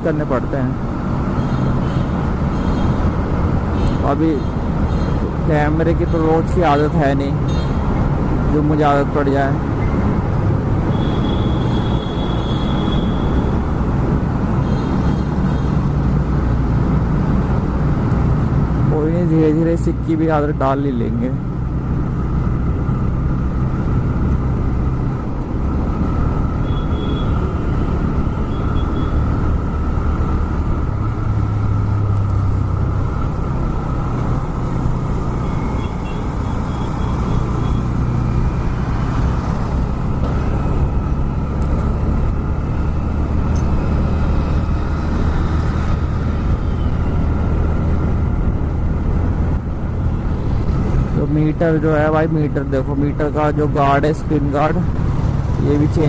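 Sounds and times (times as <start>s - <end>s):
road noise: 0.0s - 56.0s.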